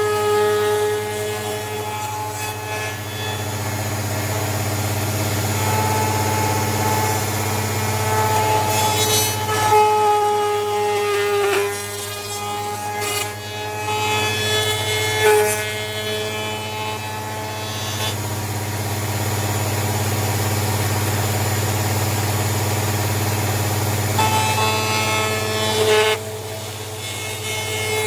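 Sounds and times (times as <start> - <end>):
router cutting wood: 0.0 - 28.0.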